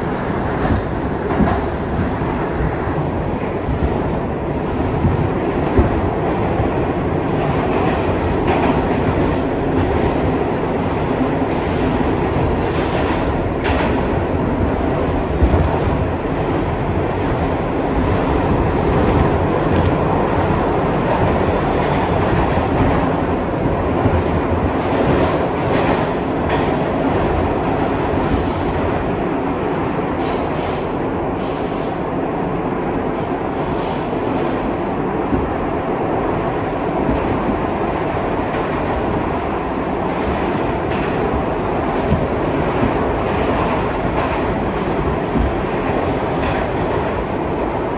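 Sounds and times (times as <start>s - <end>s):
subway car rumbling and rattling: 0.0s - 47.9s.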